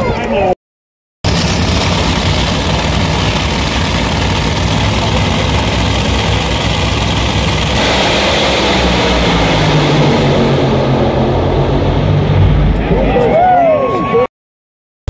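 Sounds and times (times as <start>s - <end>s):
race car engines revving: 1.3s - 14.2s.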